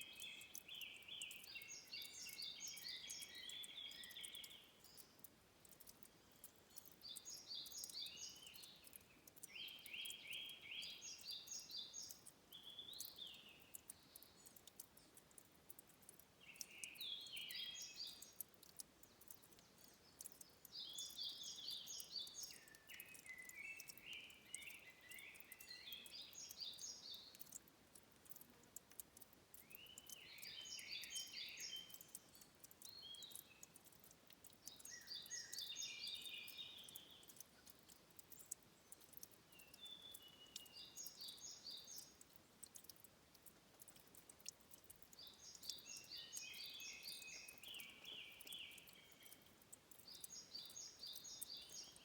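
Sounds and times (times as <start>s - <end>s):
soft steady hiss: 0.0s - 52.0s
songbird chirping: 0.0s - 52.0s.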